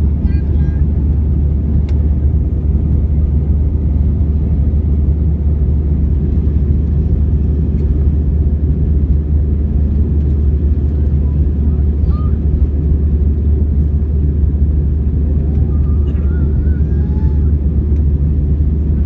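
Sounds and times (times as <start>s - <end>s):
airliner rumble in flight: 0.0s - 19.0s.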